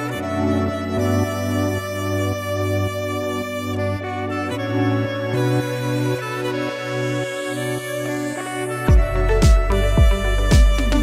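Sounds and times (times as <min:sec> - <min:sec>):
held instrumental notes: 0:00.0 - 0:11.0.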